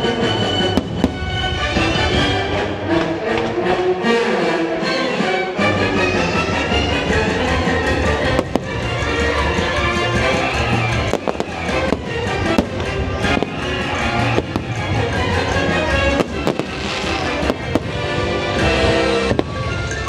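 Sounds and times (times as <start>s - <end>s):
loud show music: 0.0s - 20.0s
fireworks bangs and crackles: 0.6s - 3.6s, 6.0s - 20.0s.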